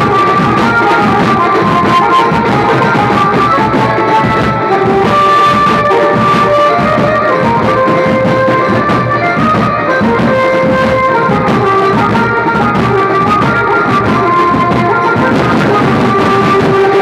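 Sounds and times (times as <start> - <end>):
procession band music over loudspeakers: 0.0 - 17.0.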